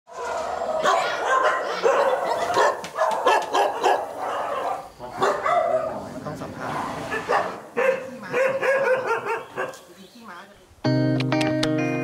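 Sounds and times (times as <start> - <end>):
dogs barking and yelping: 0.1 - 9.8.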